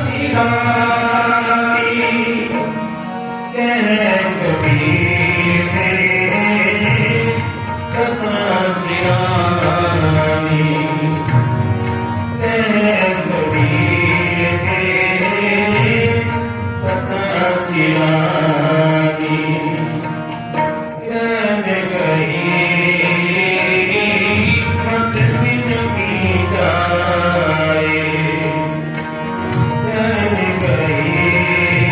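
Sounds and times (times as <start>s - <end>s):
devotional melody: 0.0s - 31.9s
tabla beat: 0.0s - 31.9s.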